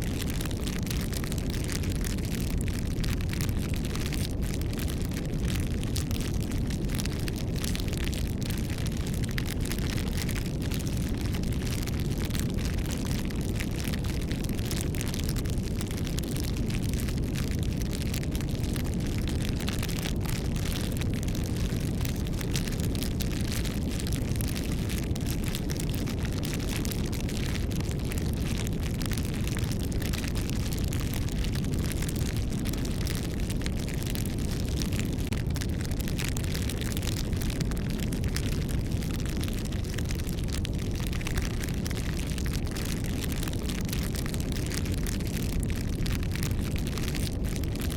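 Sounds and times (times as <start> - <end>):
bonfire crackling and popping: 0.0 - 47.9.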